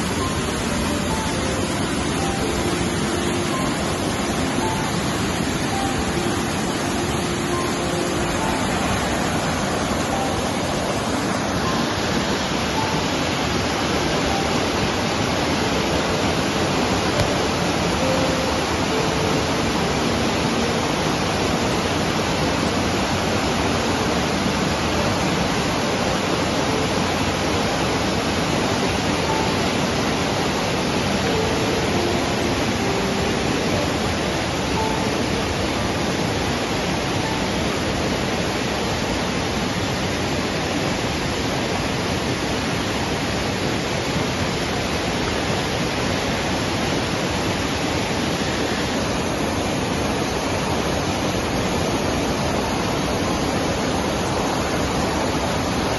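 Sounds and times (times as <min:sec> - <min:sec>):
stream rushing over boulders: 0:00.0 - 0:55.9.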